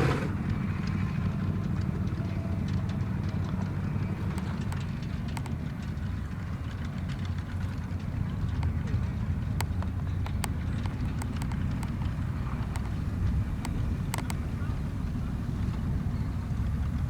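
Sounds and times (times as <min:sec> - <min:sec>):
diesel engine idling: 0:00.0 - 0:17.0
faint clicks: 0:01.7 - 0:17.0.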